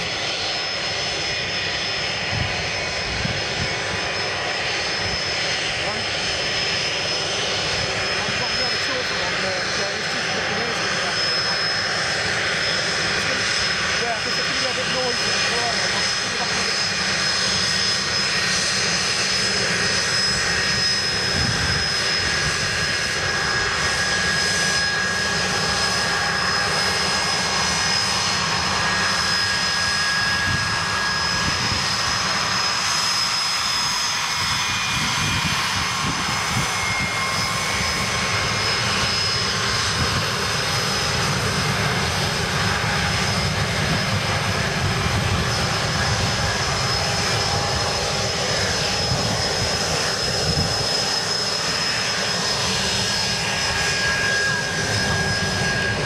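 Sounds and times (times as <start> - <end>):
jet engines running while taxiing: 0.0 - 56.0.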